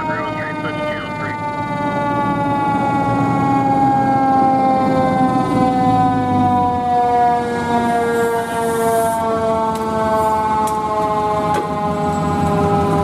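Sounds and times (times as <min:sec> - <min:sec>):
fire engine siren falling tone: 0:00.0 - 0:13.0
truck engine rumble: 0:00.0 - 0:13.0.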